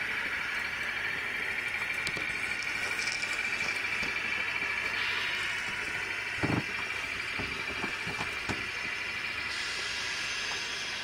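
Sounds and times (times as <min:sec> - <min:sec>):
model train wheels and motor hiss: 0:00.0 - 0:11.0.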